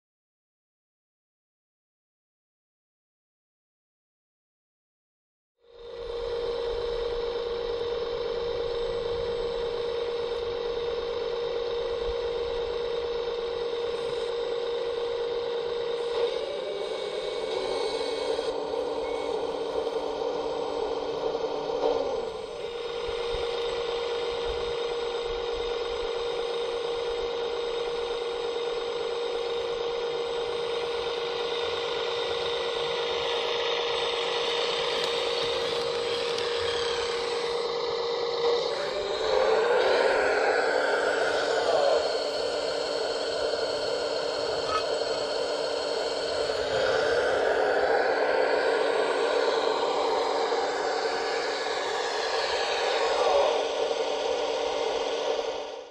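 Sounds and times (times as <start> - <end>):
model excavator engine hum: 5.6 - 55.9.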